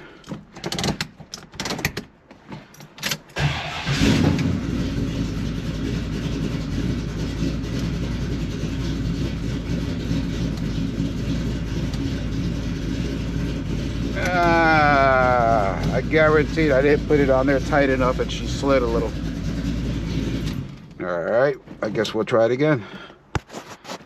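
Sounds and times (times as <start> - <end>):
car engine starting and idling: 3.1 - 23.1.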